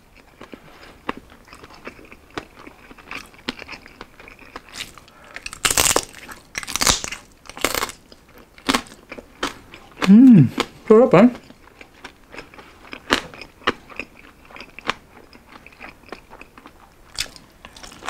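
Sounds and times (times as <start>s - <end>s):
crispy skin crunching: 0.4s - 10.7s, 11.4s - 18.0s.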